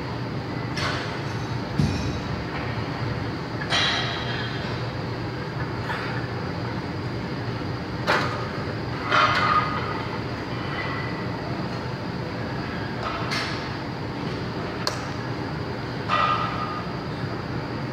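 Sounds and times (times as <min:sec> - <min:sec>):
steady background noise: 0:00.0 - 0:17.9.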